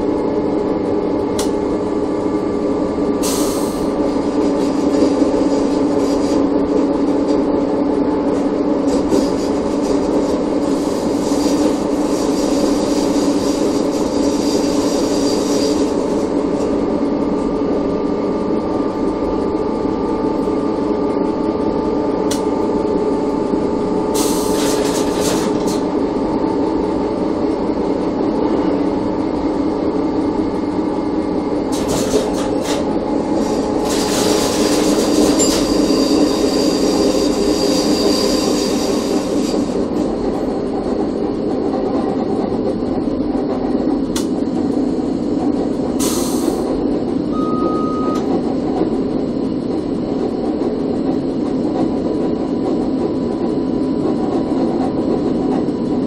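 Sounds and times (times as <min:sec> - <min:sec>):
electric railcar hum: 0:00.0 - 0:56.0.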